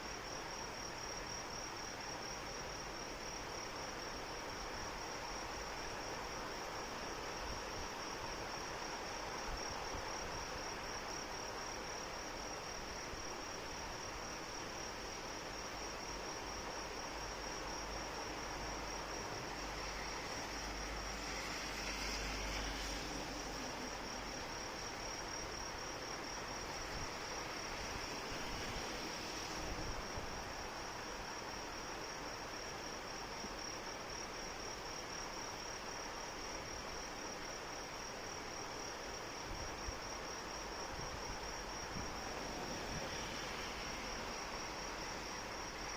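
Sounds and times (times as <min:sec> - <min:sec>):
insects trilling: 0:00.0 - 0:45.9
steady rain falling: 0:00.1 - 0:39.1.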